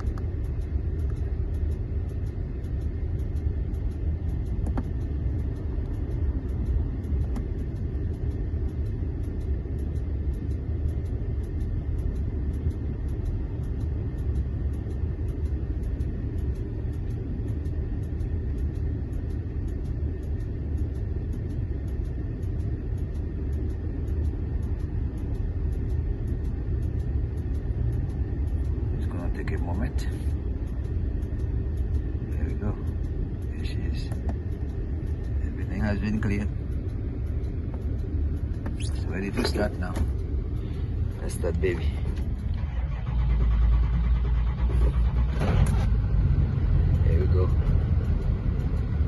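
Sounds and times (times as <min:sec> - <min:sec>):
faint high whine: 0:00.0 - 0:49.0
fine regular ticking: 0:00.0 - 0:49.0
steady low rumble: 0:00.0 - 0:49.0.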